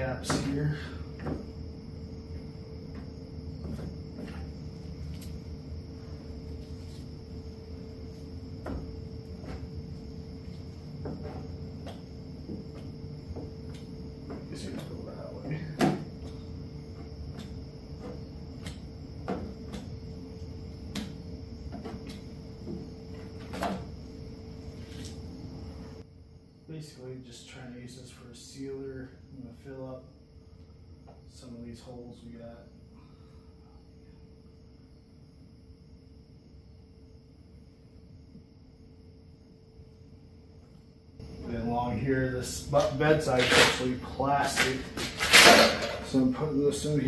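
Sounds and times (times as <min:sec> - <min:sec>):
low background hum: 0:00.0 - 0:47.0.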